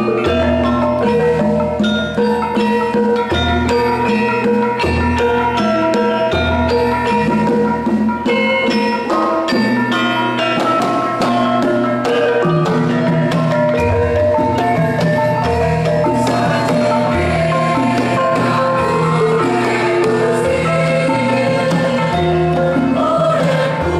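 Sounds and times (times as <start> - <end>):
kettle gongs and metallophones: 0.0 - 23.9.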